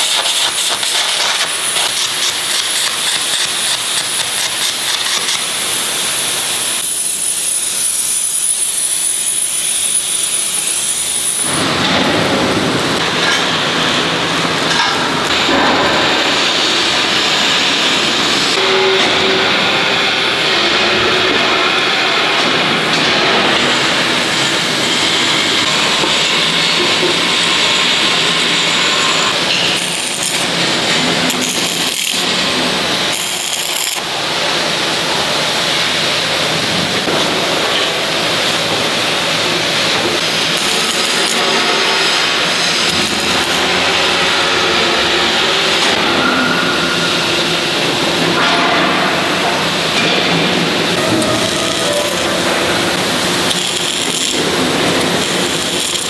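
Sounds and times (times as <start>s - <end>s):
arc welding hiss: 0.0s - 12.1s, 21.6s - 46.0s, 46.8s - 56.0s.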